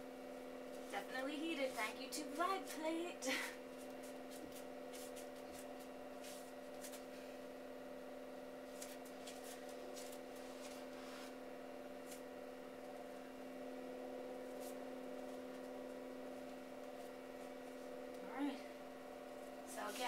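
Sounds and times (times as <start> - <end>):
vibration platform humming: 0.0 - 20.0.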